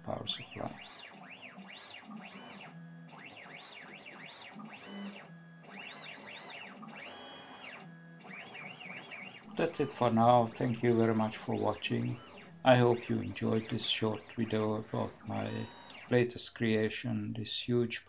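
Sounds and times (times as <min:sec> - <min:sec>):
machine drive motors whining: 0:00.0 - 0:18.0.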